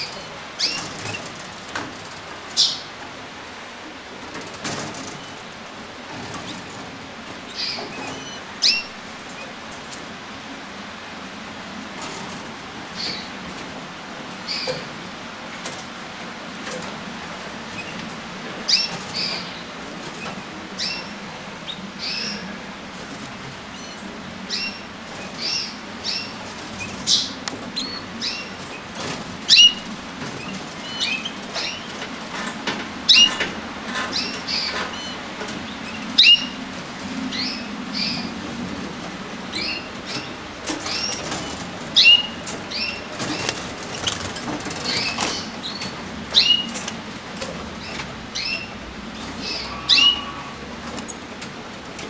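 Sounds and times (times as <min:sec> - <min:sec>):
canaries chirping: 0:00.0 - 0:52.0.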